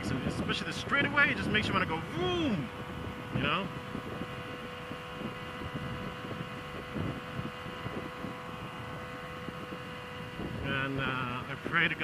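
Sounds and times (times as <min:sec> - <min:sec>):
motorcycle engine cruising: 0:00.0 - 0:12.0
wind noise: 0:00.0 - 0:12.0.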